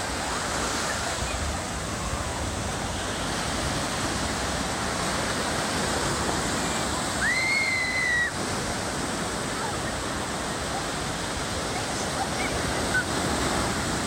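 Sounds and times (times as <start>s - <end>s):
ocean surf breaking: 0.0s - 14.0s.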